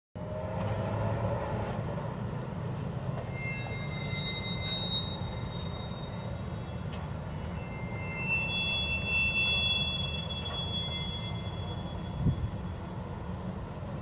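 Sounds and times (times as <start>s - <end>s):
railway wagon wheels squealing: 1.3s - 14.0s.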